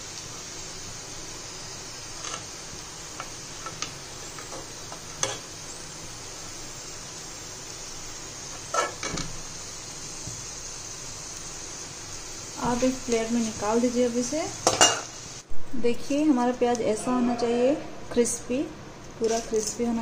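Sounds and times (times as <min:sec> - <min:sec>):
onions sizzling in oil: 0:00.0 - 0:18.4, 0:19.2 - 0:20.0.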